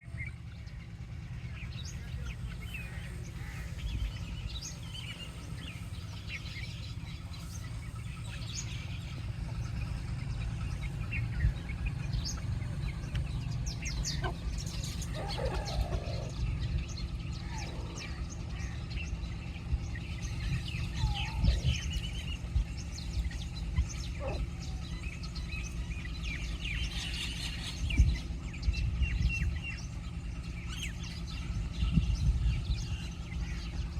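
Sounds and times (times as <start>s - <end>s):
lower bird calls: 0.0s - 33.9s
steady low rumble: 0.0s - 33.9s
baby chicks chirping: 1.7s - 33.9s.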